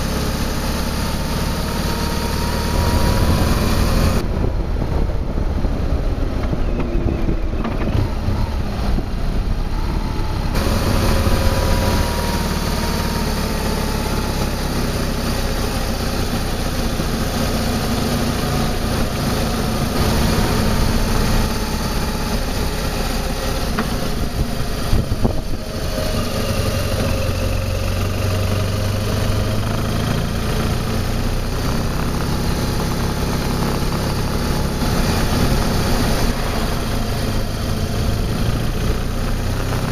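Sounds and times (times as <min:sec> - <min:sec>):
motorcycle engine running: 0:00.0 - 0:39.9
road noise: 0:00.0 - 0:39.9
wind noise: 0:01.8 - 0:13.4, 0:15.6 - 0:39.9.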